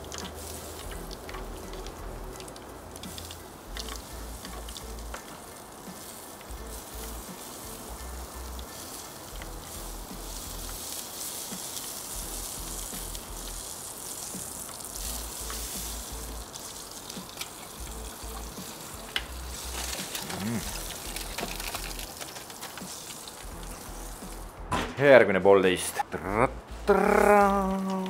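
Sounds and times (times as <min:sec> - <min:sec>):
steak and butter sizzling: 0:00.0 - 0:24.6, 0:26.7 - 0:28.0.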